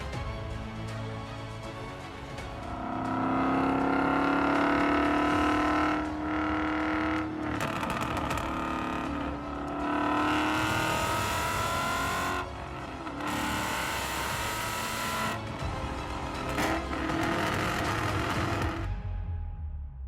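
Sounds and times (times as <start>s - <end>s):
car engine accelerating: 2.7s - 19.0s.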